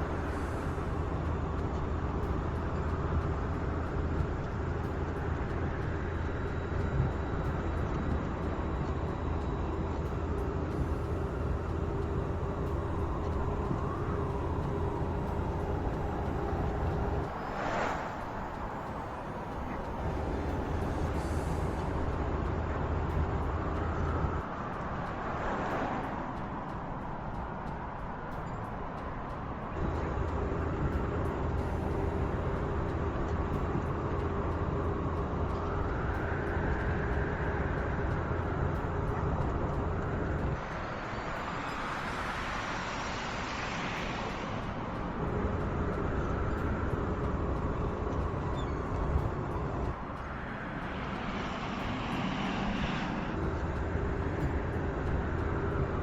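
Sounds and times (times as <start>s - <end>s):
road and tyre noise: 0.0s - 56.0s.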